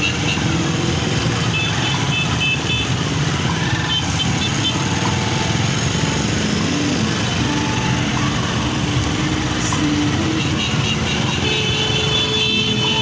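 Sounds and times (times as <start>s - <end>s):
motorcycle and car engines: 0.0s - 13.0s.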